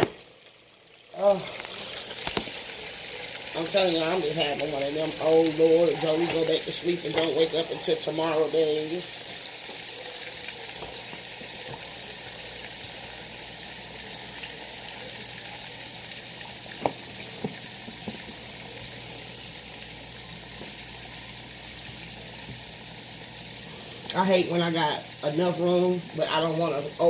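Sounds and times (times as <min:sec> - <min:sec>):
chicken frying in grease: 0:00.0 - 0:27.0.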